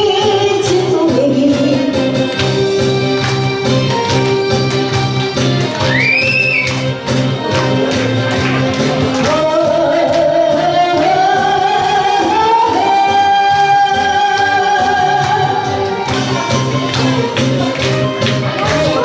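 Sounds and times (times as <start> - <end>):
band backing track: 0.0 - 19.0.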